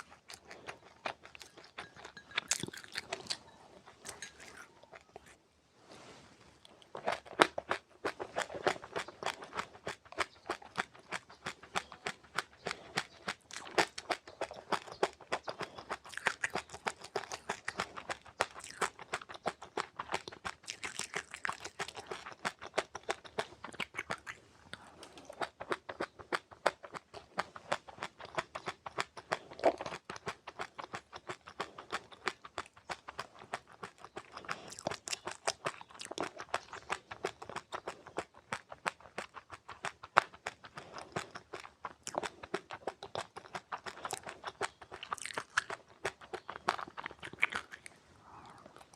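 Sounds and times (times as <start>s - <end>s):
crunchy chewing of seeds: 0.0s - 48.9s.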